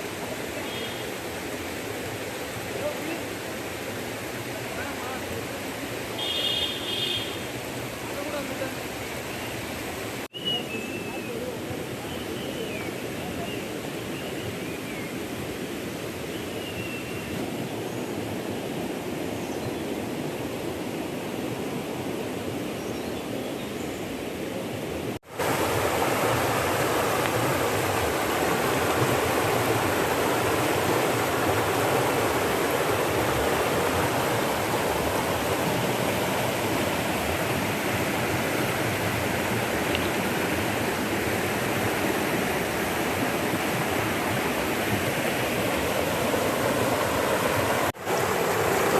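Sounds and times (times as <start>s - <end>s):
river water flowing over rocks: 0.0s - 19.4s, 24.3s - 48.9s.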